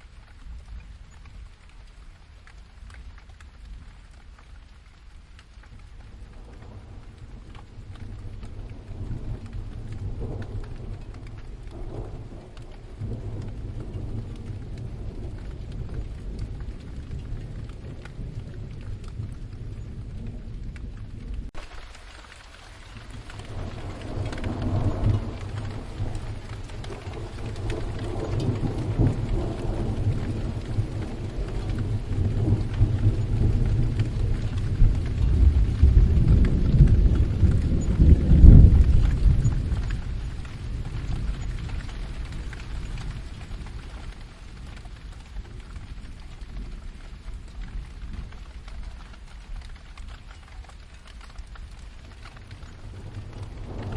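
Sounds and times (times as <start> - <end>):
steady rain: 0.0 - 53.9
deep roll of thunder: 6.0 - 22.0, 22.7 - 53.9.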